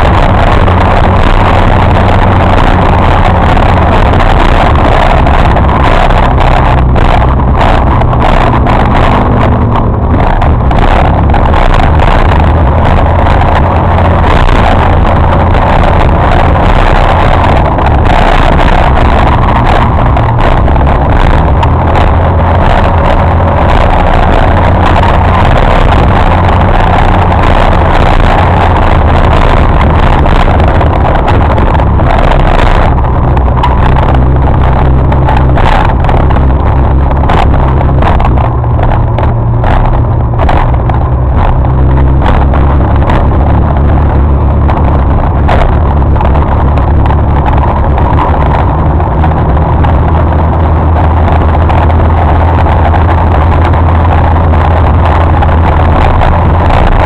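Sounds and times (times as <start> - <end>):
motorcycle engine drone: 0.0 - 57.0
wind rush on microphone: 0.0 - 57.0.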